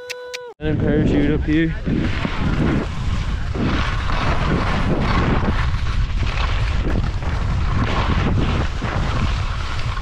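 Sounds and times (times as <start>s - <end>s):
wind buffeting the microphone: 0.6s - 10.0s
skis scraping on icy snow: 1.9s - 10.0s.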